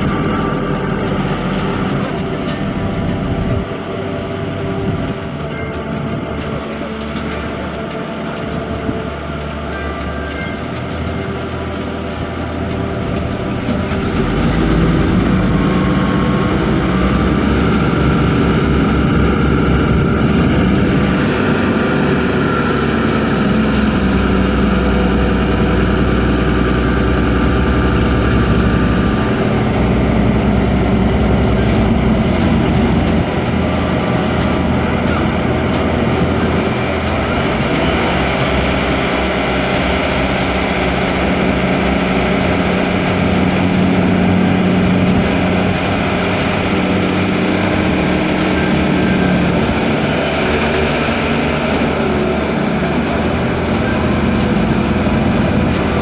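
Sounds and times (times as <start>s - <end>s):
crane diesel engine rumble: 0.0s - 56.0s
steady hum: 0.0s - 56.0s.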